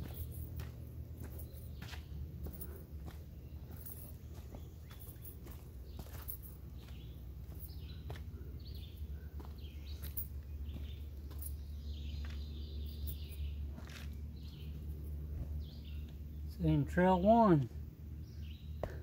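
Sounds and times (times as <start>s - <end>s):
footsteps on rocky dirt trail: 0.0s - 16.4s, 17.6s - 19.0s
birds chirping: 0.0s - 19.0s.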